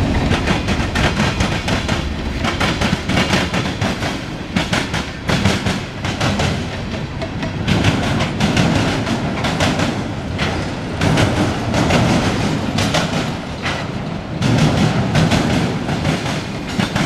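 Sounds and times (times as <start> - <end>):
low train rumble: 0.0 - 17.0
train wheels clattering over rail joints: 0.0 - 17.0.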